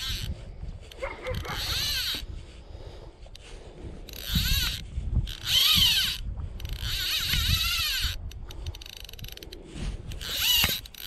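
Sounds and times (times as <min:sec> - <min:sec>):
fishing reel ratchet buzzing: 0:00.0 - 0:02.3, 0:03.3 - 0:11.0
wind rumble on microphone: 0:00.0 - 0:11.0.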